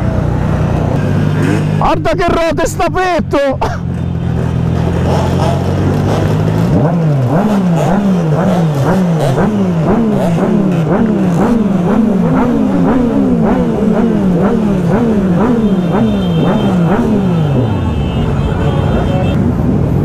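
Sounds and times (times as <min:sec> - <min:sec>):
motorcycle engine revving: 0:00.0 - 0:02.0, 0:03.8 - 0:18.1.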